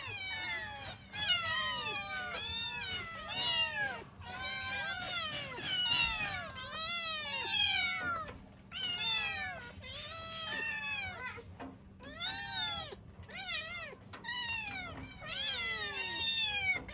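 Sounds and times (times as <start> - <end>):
kittens meowing: 0.0 - 16.9.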